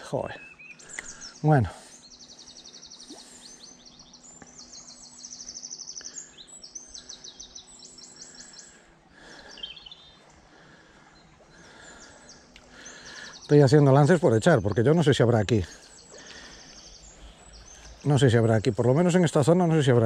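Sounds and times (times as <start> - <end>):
songbirds trilling: 0.0 - 20.0.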